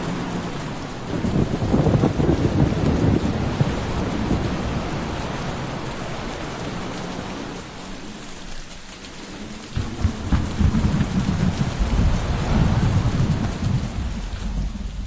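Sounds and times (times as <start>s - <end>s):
thunder rumble: 0.0s - 7.9s, 9.4s - 15.0s
steady rain: 0.0s - 15.0s.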